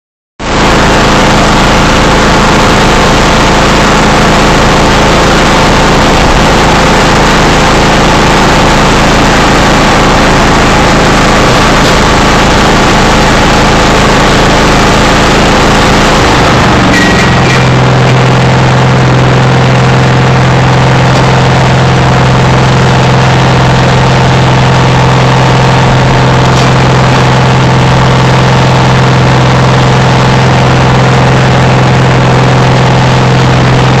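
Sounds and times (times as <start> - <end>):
engine idling loudly: 0.4 - 34.0.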